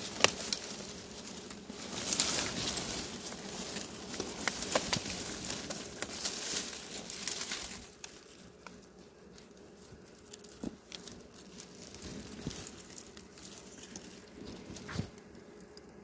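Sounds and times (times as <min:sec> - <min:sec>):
dry grass and leaves rustling: 0:00.0 - 0:16.0
twigs snapping: 0:00.0 - 0:16.0.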